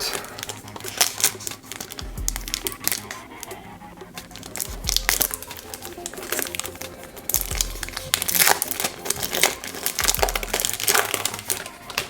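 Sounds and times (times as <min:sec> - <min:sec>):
foil wrapper crinkling and tearing: 0:00.0 - 0:03.6, 0:04.2 - 0:12.0
background music: 0:00.0 - 0:12.0.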